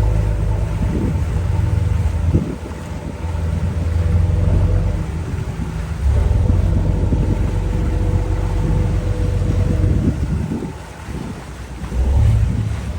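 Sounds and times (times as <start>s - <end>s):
boat engine drone: 0.0s - 12.9s
wind buffeting microphone: 0.0s - 12.9s.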